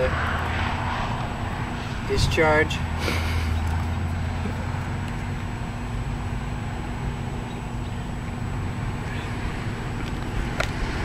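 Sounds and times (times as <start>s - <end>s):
low mechanical hum: 0.0s - 11.0s
open-air background noise: 0.0s - 11.0s.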